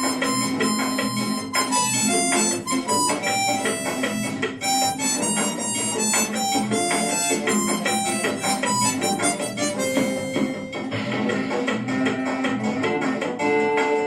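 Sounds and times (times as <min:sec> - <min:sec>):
harmonica melody: 0:00.0 - 0:11.8.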